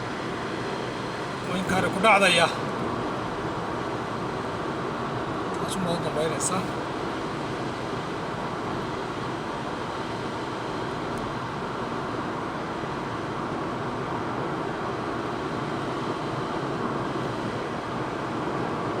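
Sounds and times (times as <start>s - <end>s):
vehicle road noise rumble: 0.0s - 19.0s.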